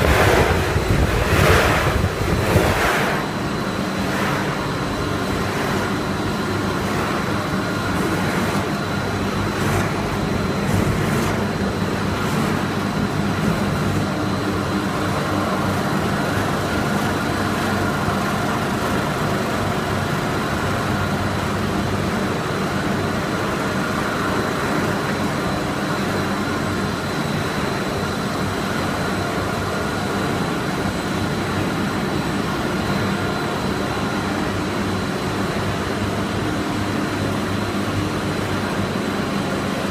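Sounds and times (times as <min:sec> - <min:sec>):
machinery hum: 0:00.0 - 0:39.9.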